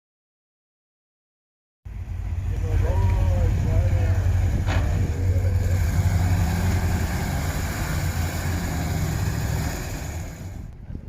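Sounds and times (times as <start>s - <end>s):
car engine rumbling: 1.9s - 11.0s.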